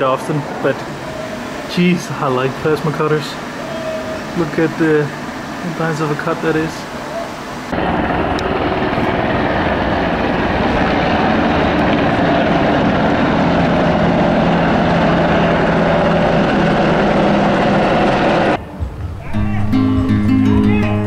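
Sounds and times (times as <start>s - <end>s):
helicopters flying low overhead: 0.0s - 18.6s.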